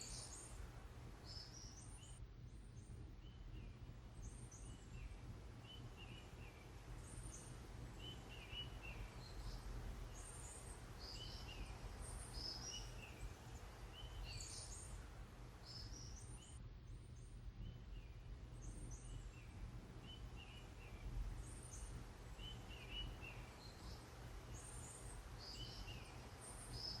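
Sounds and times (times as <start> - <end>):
small birds chirping: 0.0 - 2.2, 2.8 - 16.6, 17.2 - 27.0.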